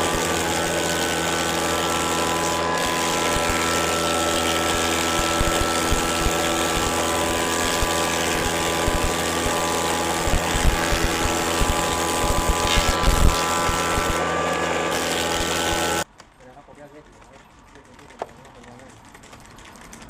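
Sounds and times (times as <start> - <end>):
motor humming steadily: 0.0 - 16.1.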